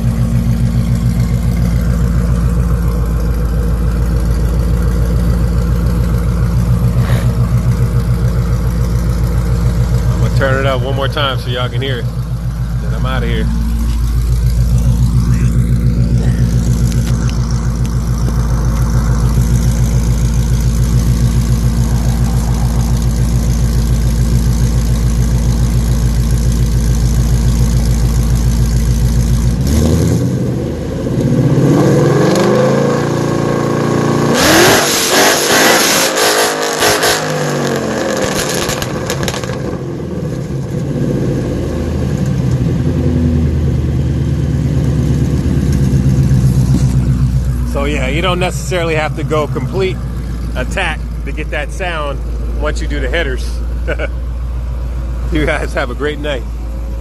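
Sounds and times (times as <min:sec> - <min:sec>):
car engine idling and revving: 0:00.0 - 0:57.0
exhaust crackling: 0:00.0 - 0:57.0.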